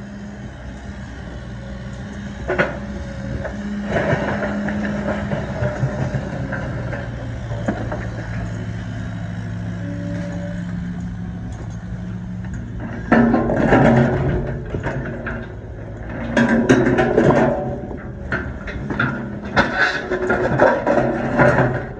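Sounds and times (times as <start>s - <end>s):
heavy machinery engine running: 0.0s - 21.9s
noisy clattering: 0.4s - 21.9s.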